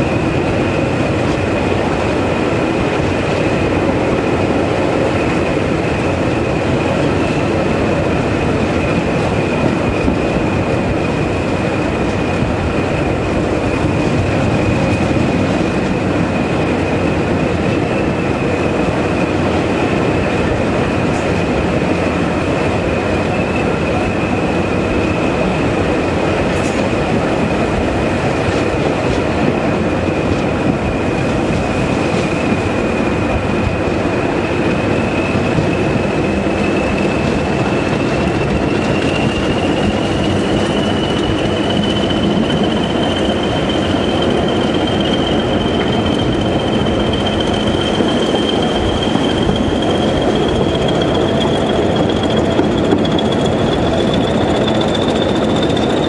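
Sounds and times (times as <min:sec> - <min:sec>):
diesel locomotive engine and rail rumble: 0:00.0 - 0:56.0.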